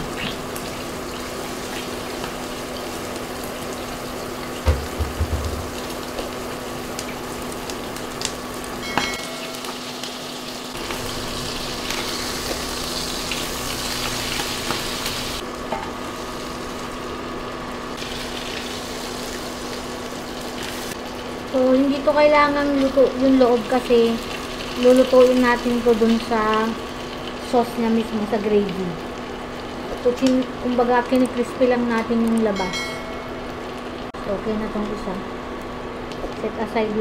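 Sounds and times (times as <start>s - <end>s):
patties sizzling in frying pan: 0.0s - 32.1s.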